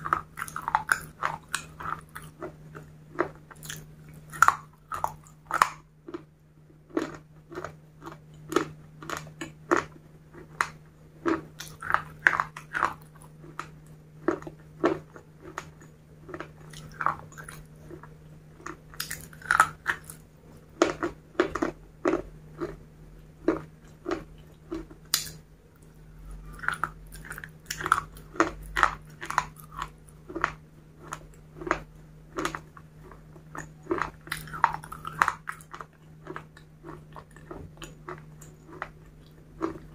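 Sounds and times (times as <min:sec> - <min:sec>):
low electrical hum: 0:00.0 - 0:39.9
mouth chewing crunchy food: 0:00.0 - 0:39.9.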